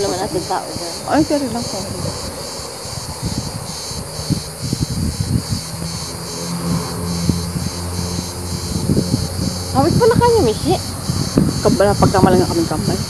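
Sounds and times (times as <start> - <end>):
insects chirping in pulses: 0.0 - 13.0.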